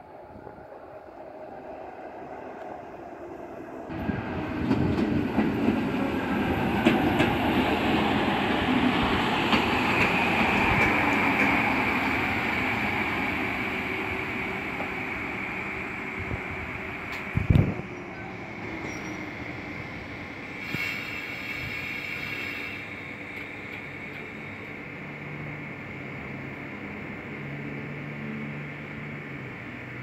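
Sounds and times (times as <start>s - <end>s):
train wheels rumbling on rail: 3.6s - 30.0s.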